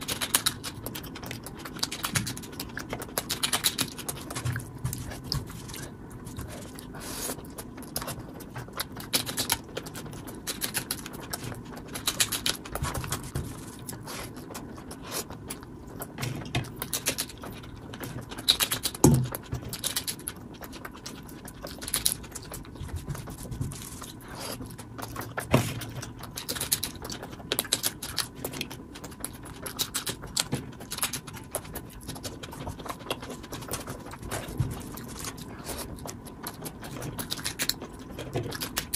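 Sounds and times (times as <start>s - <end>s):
close-up eating: 0.0s - 38.9s.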